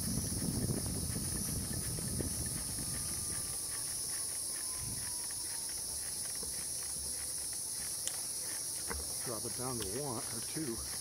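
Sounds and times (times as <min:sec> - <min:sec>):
insects buzzing: 0:00.0 - 0:11.0
trike rolling on pavement: 0:00.0 - 0:11.0.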